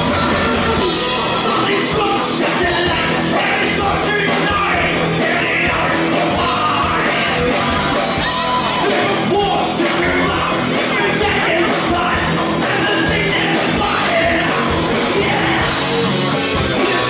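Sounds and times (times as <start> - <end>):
drum kit: 0.0 - 17.0
electric bass: 0.0 - 17.0
electric guitars: 0.0 - 17.0
man singing into microphone: 0.8 - 7.5, 8.7 - 15.9, 16.7 - 17.0.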